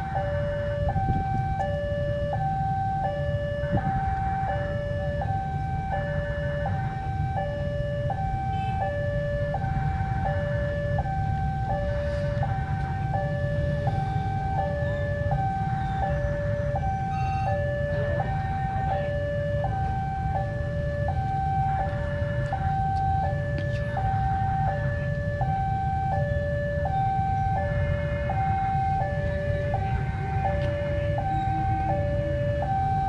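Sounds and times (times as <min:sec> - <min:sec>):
two-tone level crossing alarm: 0:00.0 - 0:33.0.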